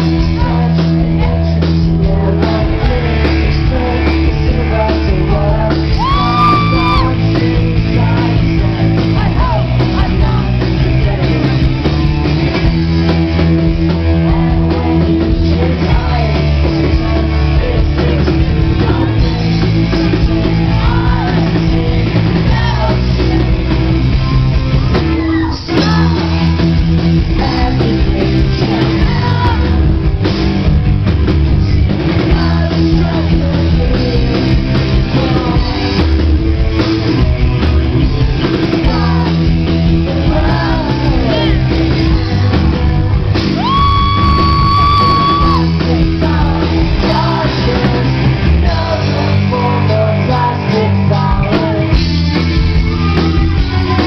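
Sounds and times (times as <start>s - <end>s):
person singing: 0.0s - 12.0s, 13.7s - 24.4s, 25.0s - 30.1s, 32.2s - 36.3s, 38.6s - 54.0s
rock band playing live: 0.0s - 54.0s.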